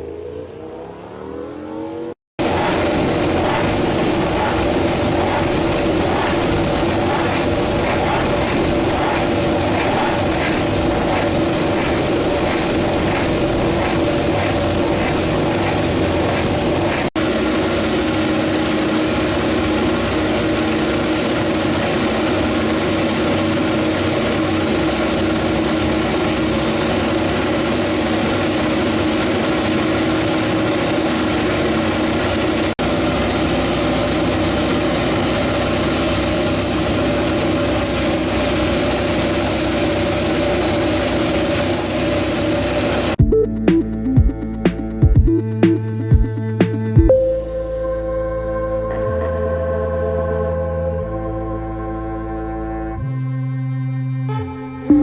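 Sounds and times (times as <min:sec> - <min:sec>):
racing motorcycle engine running: 0:00.0 - 0:47.1.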